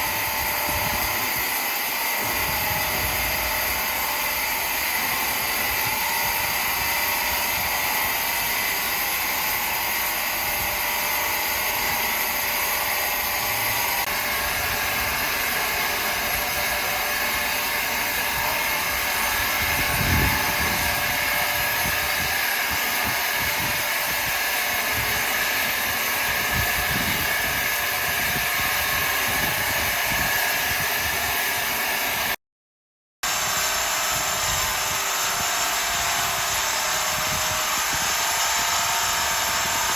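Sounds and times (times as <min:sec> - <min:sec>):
sawmill saw whining: 0:00.0 - 0:32.4, 0:33.2 - 0:39.9.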